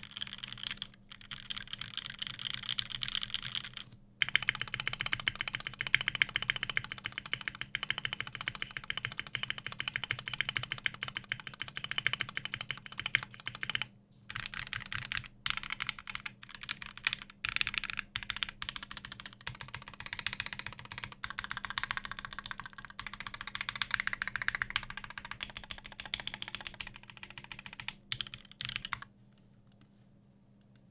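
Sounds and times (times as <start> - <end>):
fast mechanical keyboard typing: 0.0 - 29.1.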